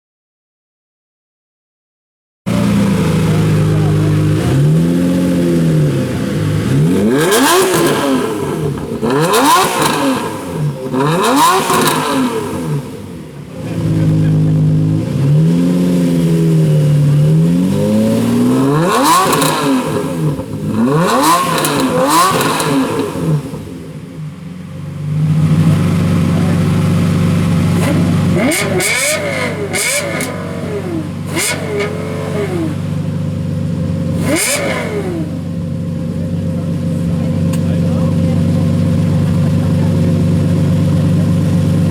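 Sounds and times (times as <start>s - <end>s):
engine idling: 2.5s - 41.9s
sports car engines revving: 2.5s - 41.9s.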